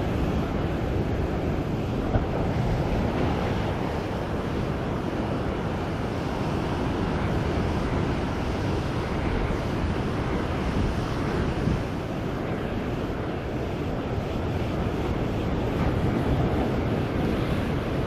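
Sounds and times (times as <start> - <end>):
surf breaking over rocks: 0.0 - 18.0
wind buffeting microphone: 0.0 - 18.0.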